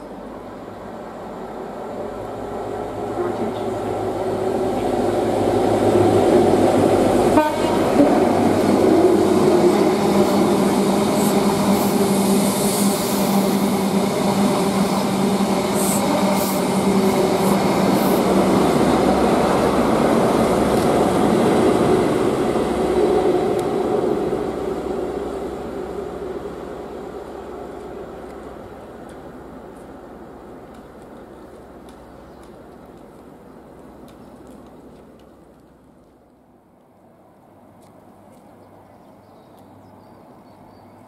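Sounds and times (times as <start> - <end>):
train coaches rumbling on rails: 0.0 - 36.0
diesel train engine drone: 0.0 - 40.7.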